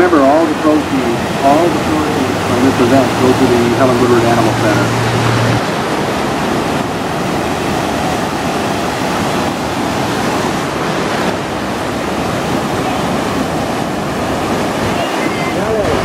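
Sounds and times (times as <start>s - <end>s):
small waves breaking in surf: 0.0s - 16.0s.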